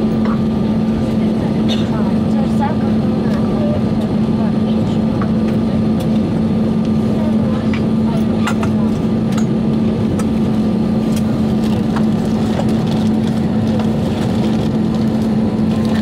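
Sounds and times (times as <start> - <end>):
airplane cabin hum: 0.0 - 16.0.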